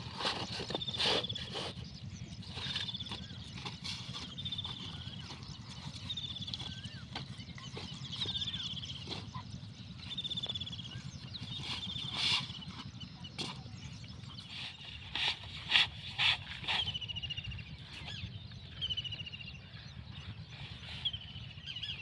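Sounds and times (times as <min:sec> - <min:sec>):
bird trilling: 0:00.0 - 0:22.0.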